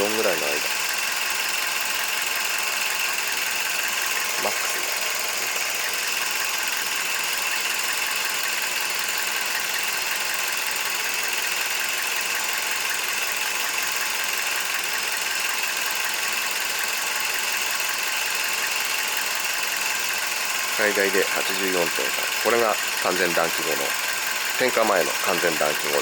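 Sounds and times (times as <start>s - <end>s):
car engine idling: 0.0s - 26.0s
fuel injectors ticking: 0.0s - 26.0s.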